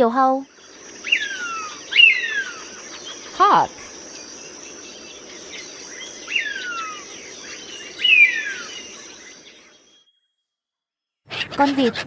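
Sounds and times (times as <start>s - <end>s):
crickets buzzing: 0.0s - 10.0s.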